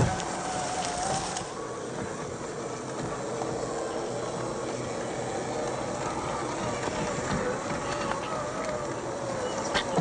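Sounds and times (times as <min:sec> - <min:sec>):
electric motor whine: 0:00.0 - 0:10.0
noisy hiss: 0:00.0 - 0:10.0.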